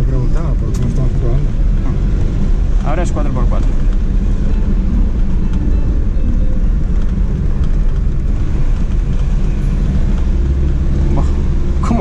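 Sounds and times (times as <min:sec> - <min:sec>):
car engine running: 0:00.0 - 0:12.0
tyre and road noise: 0:00.0 - 0:12.0.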